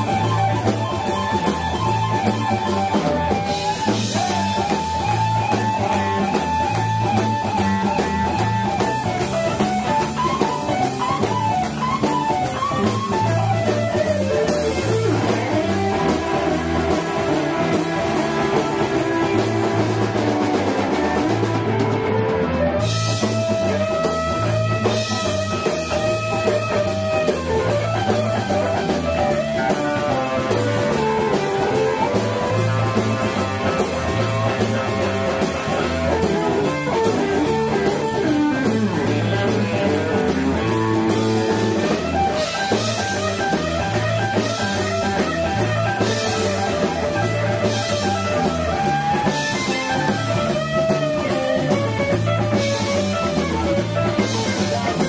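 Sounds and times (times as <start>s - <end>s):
bass guitar: 0.0s - 55.0s
drum kit: 0.0s - 55.0s
electric guitar solo: 0.0s - 55.0s.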